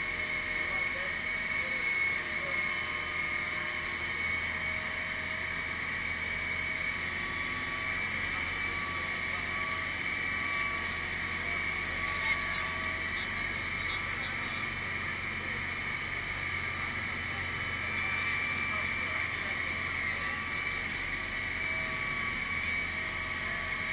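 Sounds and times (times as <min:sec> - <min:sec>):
motor humming: 0:00.0 - 0:23.9.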